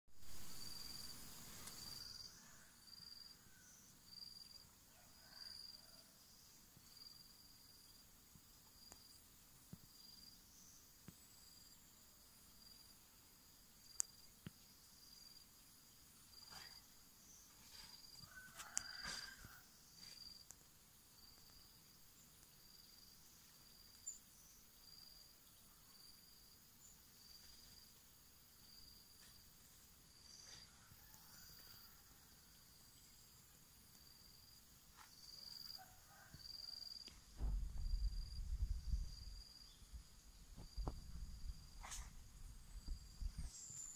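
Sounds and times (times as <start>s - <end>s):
faint background hiss: 0.1s - 43.9s
insect high-pitched trills: 0.2s - 43.9s.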